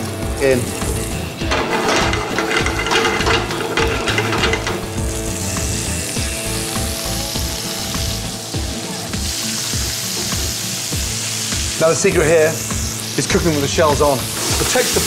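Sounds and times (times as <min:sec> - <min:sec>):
prawns sizzling in hot oil: 0:00.0 - 0:15.0.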